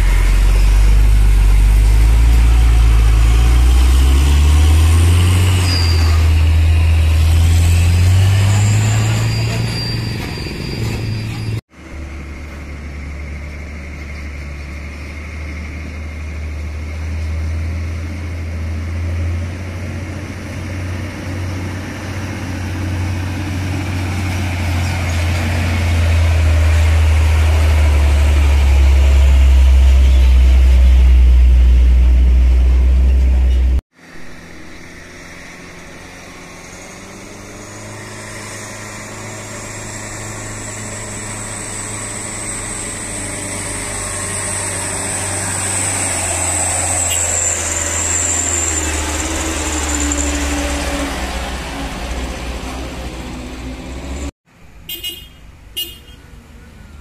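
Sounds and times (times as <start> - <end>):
distant truck engine hum: 0.0 - 57.0
truck diesel engine climbing: 0.0 - 57.0.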